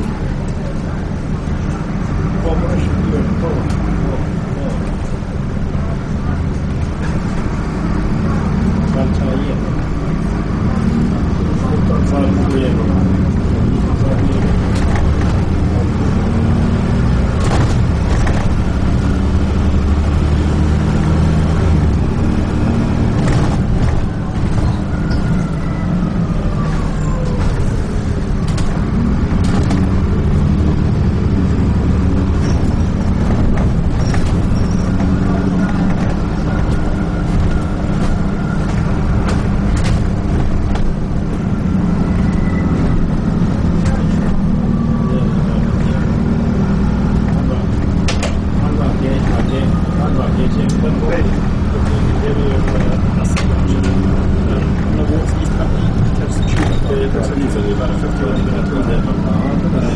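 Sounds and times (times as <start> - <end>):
bus body rattling: 0.0 - 59.9
bus engine humming: 0.0 - 59.9.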